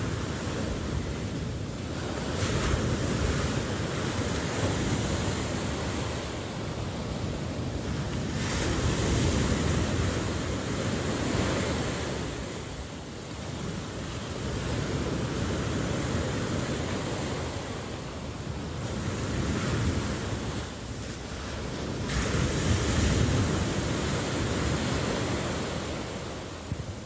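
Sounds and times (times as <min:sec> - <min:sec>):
ocean waves: 0:00.0 - 0:27.0.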